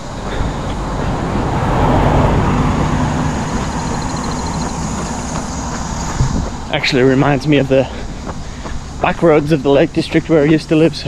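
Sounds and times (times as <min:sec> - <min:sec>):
car passing: 0:00.0 - 0:11.0.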